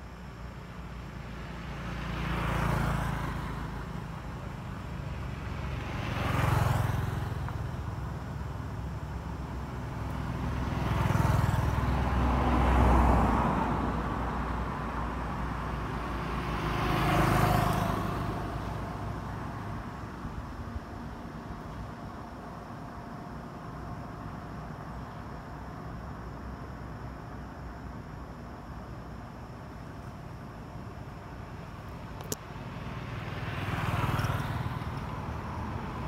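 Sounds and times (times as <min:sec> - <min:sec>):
road vehicles passing: 0:00.0 - 0:36.0.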